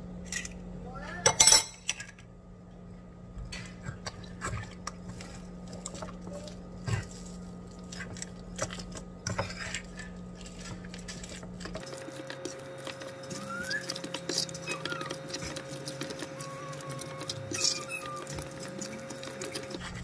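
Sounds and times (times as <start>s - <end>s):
fork stirring wet dough: 3.6s - 20.0s.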